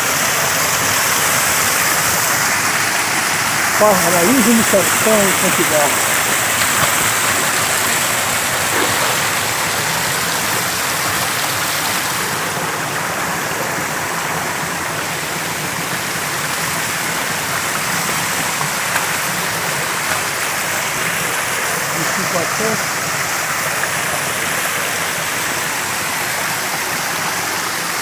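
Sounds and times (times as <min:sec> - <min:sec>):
creek rushing over rocks: 0:00.0 - 0:28.0.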